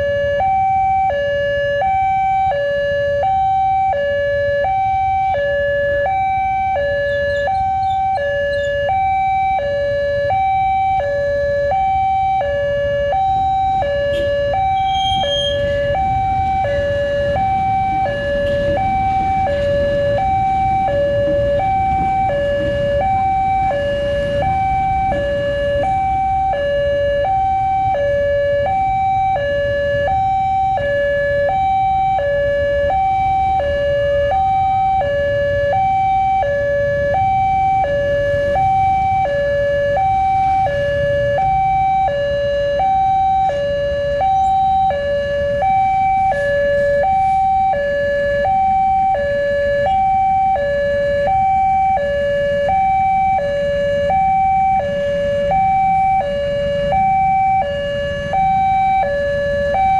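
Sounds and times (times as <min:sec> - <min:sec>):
level-crossing two-tone alarm: 0:00.0 - 0:59.9.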